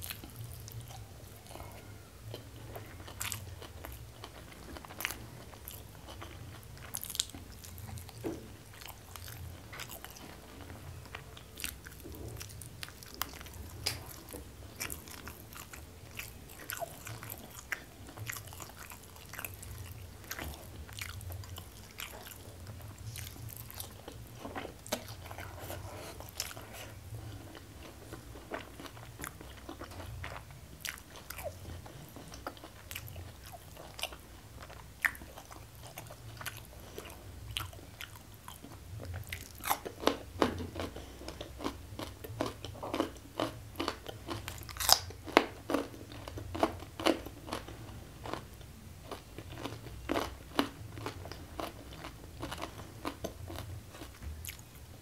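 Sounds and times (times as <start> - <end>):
crunching food: 0.0 - 54.9
chewing food: 0.0 - 55.0.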